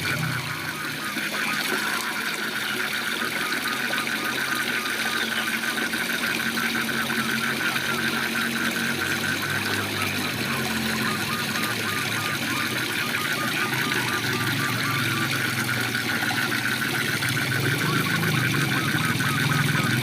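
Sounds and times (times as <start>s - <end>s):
frog calling in pulses: 0.0s - 20.0s.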